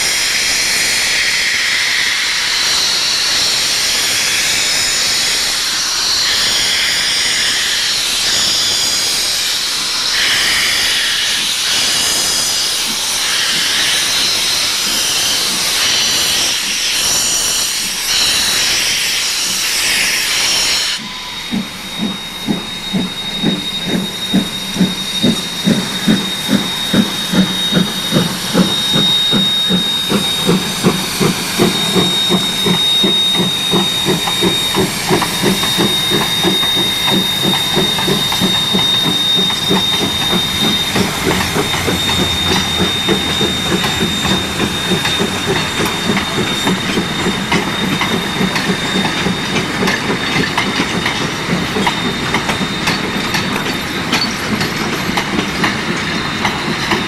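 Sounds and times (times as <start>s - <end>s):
clickety-clack of train wheels: 0.0s - 57.0s
loud hiss of steam: 0.0s - 57.0s
steam locomotive exhaust chuffs: 0.0s - 57.0s.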